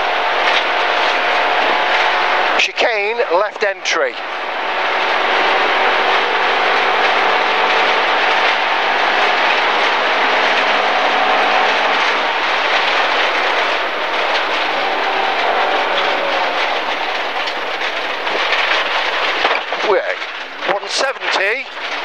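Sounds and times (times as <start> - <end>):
rally car engine running hard: 0.0 - 22.0
tyre and gravel noise: 0.0 - 22.0.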